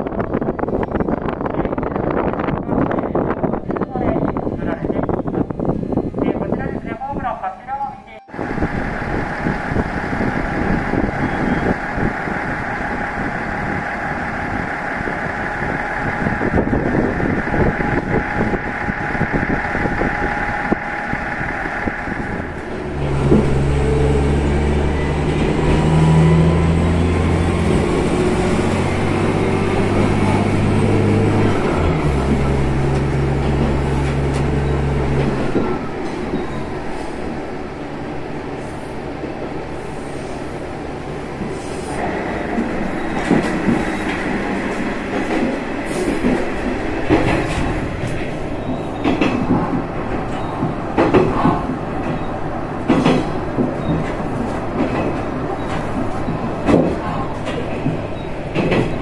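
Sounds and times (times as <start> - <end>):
diesel railcar engine: 0.0 - 59.0.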